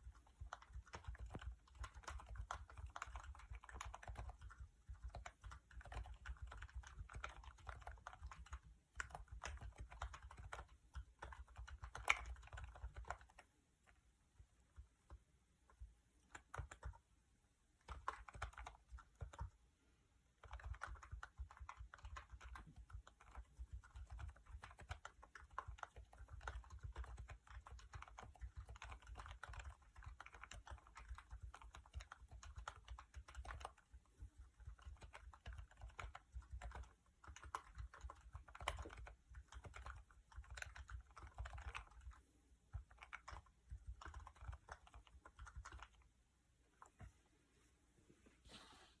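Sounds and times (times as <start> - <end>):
quiet keyboard typing: 0.0 - 47.2.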